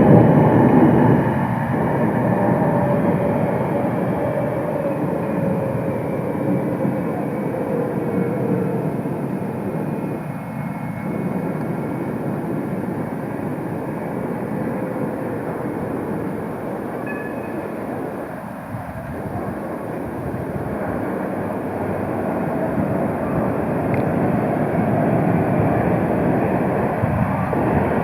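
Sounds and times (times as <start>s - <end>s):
tram running noise: 0.0s - 28.0s
tram squeals: 0.0s - 28.0s.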